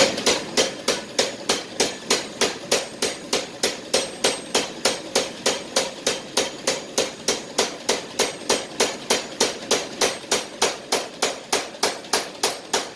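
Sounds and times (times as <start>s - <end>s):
hammer striking steel: 0.0s - 12.9s.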